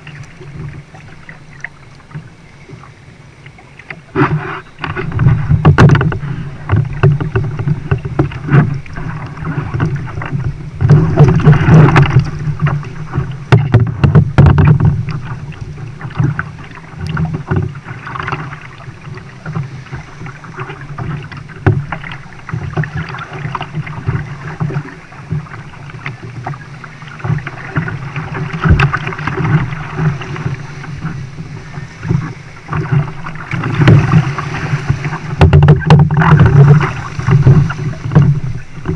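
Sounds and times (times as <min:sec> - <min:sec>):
water slapping kayak hull: 0:00.0 - 0:38.9
knocks on boat: 0:04.1 - 0:38.9.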